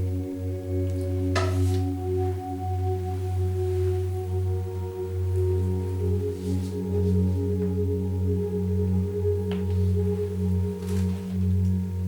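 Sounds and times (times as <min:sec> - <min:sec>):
low pulsing drone: 0:00.0 - 0:12.0
faint soft rustle: 0:00.8 - 0:08.2, 0:08.8 - 0:12.0.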